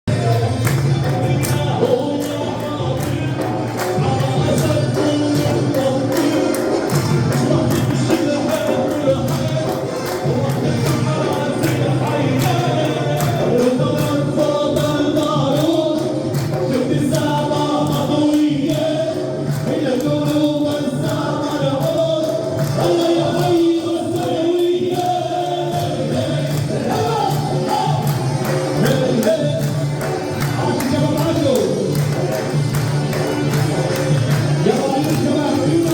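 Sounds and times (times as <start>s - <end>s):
quick percussion beat: 0.0s - 35.9s
group singing with lead voice: 0.2s - 31.8s, 32.4s - 35.9s.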